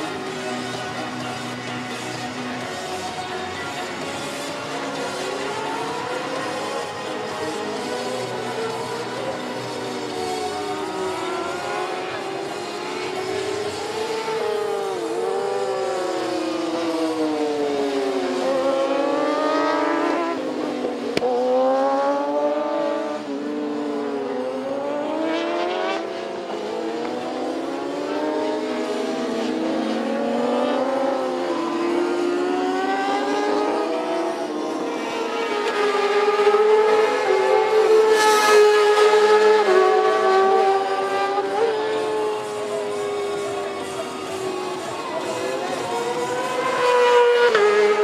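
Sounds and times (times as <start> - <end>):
motorcycle engines racing: 0.0 - 48.0.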